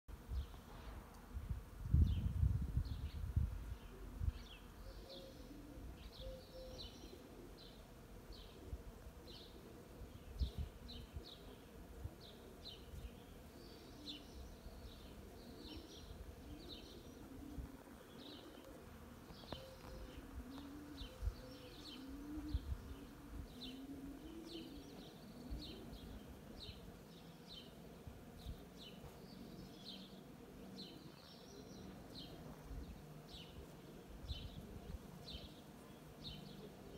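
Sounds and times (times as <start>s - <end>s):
songbird chirping: 1.9s - 36.9s
dove cooing: 3.7s - 36.9s
bees buzzing: 7.2s - 36.9s.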